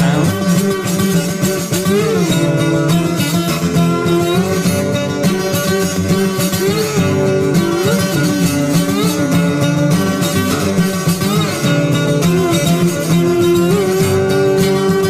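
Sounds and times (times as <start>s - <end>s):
acoustic folk guitar music: 0.0s - 15.0s.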